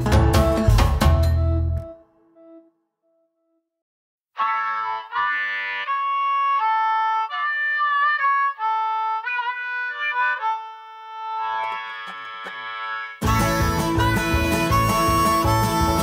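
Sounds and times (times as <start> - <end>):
instrumental background music: 0.0 - 2.5, 4.4 - 16.0.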